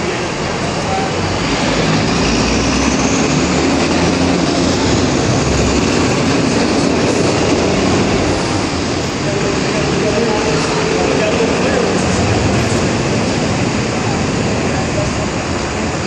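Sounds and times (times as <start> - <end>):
loud steady rumble: 0.0 - 16.0
low drone: 0.0 - 16.0.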